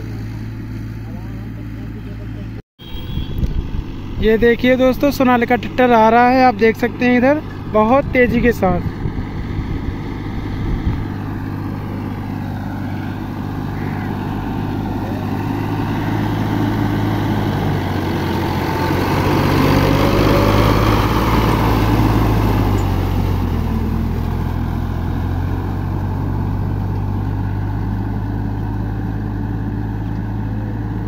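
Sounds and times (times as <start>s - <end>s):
tractor diesel engine under load: 0.0s - 2.6s, 3.4s - 31.0s.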